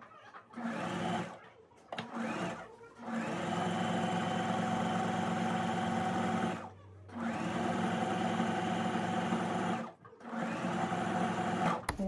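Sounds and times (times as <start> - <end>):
sewing machine stitching: 0.5 - 1.4, 2.0 - 12.0.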